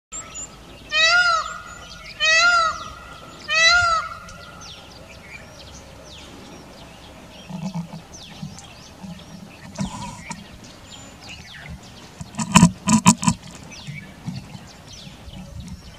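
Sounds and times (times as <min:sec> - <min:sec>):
small birds chirping: 0:00.1 - 0:15.9
peafowl wailing calls: 0:00.2 - 0:15.9.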